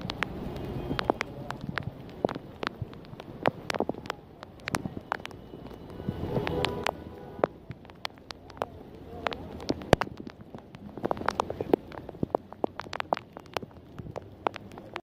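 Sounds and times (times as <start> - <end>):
raindrops tapping: 0.0 - 15.0
steady wash of heavy rain: 0.0 - 15.0.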